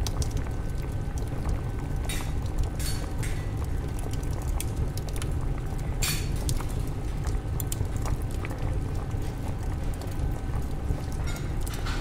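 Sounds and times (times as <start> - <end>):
crackles and clicks: 0.0 - 12.0.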